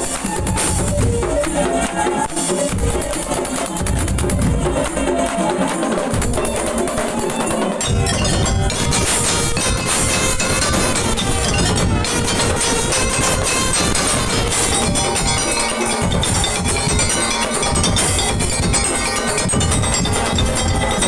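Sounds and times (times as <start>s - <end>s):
percussion ensemble music: 0.0s - 21.0s.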